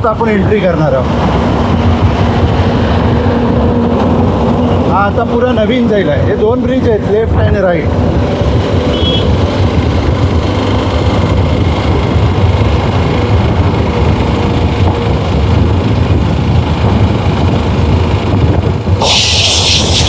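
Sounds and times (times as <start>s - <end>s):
tyres on road: 0.0s - 20.0s
wind buffeting camera: 0.1s - 5.4s, 6.3s - 20.0s.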